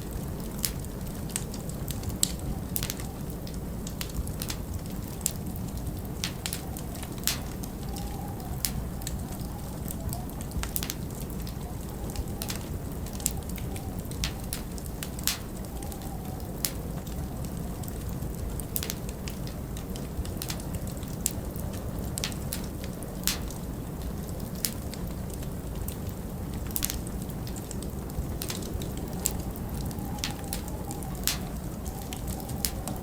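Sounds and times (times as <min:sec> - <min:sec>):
low wind rumble: 0:00.0 - 0:33.0
wood fire crackling and popping: 0:00.0 - 0:33.0.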